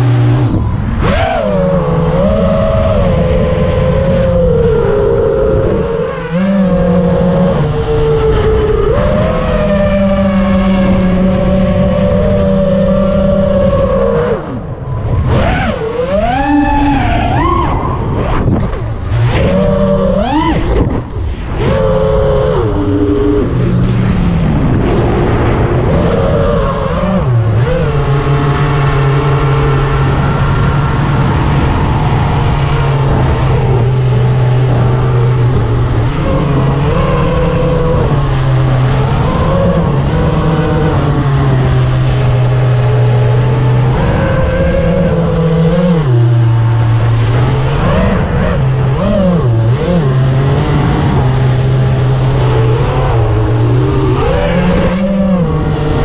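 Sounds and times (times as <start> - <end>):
quadcopter motors and propellers: 0.0 - 56.0.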